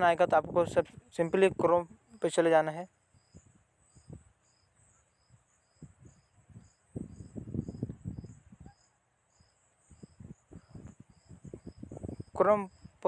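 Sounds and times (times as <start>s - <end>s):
cricket chirping: 1.2s - 13.0s.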